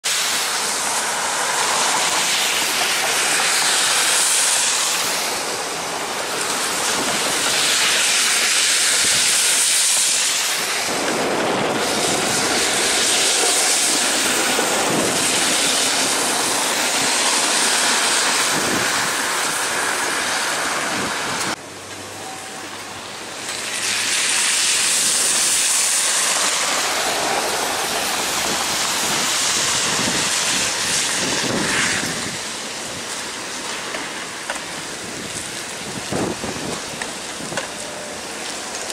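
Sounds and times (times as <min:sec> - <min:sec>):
car tyres hissing on wet road: 0:00.0 - 0:38.9
streetcar running on rails: 0:00.0 - 0:38.9.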